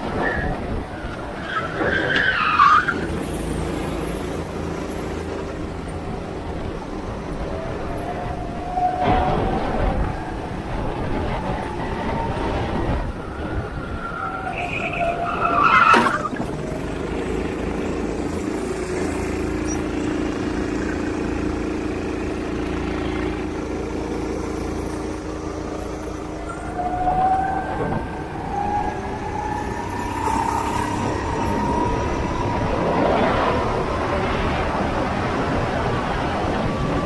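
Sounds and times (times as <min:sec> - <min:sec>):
go-kart engine running: 0:00.0 - 0:37.0.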